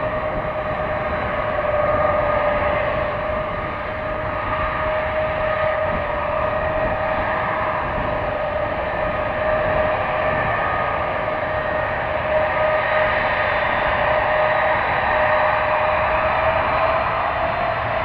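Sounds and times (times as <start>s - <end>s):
jet engines high whine: 0.0s - 18.0s.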